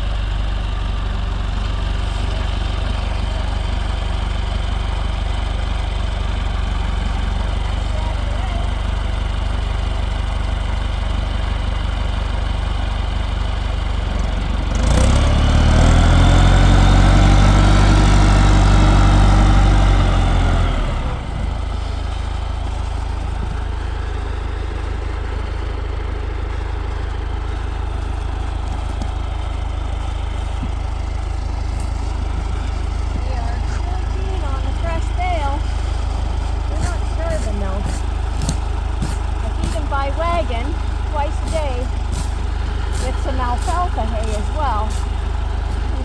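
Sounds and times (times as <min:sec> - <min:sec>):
tractor engine idling and revving: 0:00.0 - 0:46.0.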